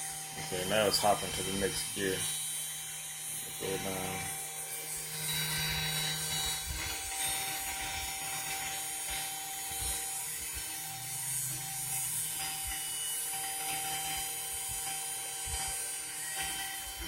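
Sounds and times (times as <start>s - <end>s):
milling machine whining: 0.0s - 17.0s.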